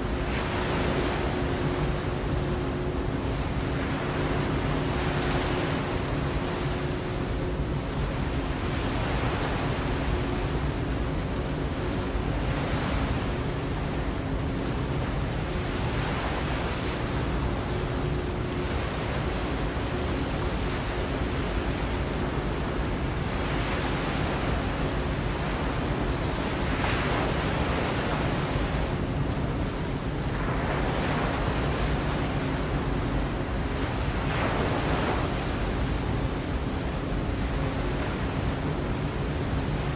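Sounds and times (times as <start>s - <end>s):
waves rushing: 0.0s - 39.9s
wind: 0.0s - 39.9s.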